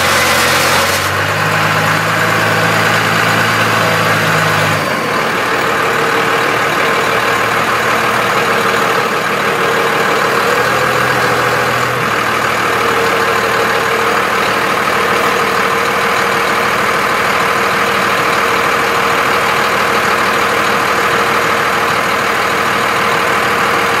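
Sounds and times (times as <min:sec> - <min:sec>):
diesel engine running: 0:00.0 - 0:24.0
engine rattle: 0:00.0 - 0:24.0.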